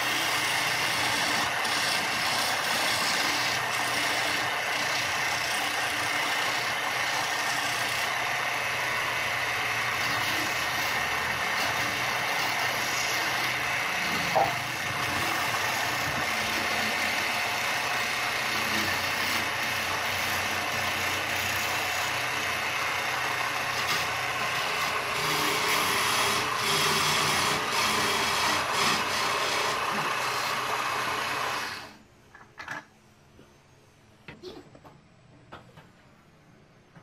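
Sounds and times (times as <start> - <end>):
lathe motor hum: 0.0 - 32.0
tool scraping spinning wood: 0.0 - 32.0.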